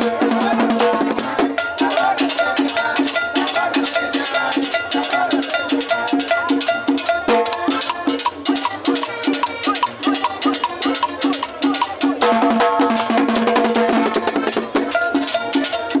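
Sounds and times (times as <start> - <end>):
drums and percussion beat: 0.0 - 16.0
live band playing cumbia: 0.0 - 16.0.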